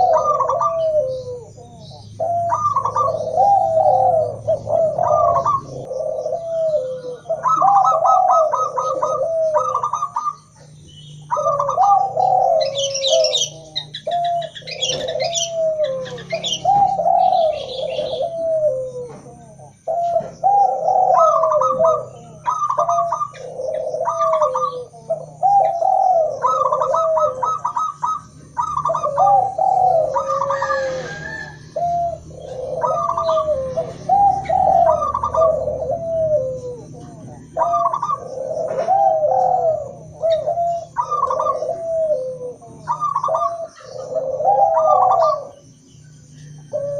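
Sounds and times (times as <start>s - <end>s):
doves cooing: 0.0s - 46.9s
high small-bird chirping: 0.0s - 46.9s.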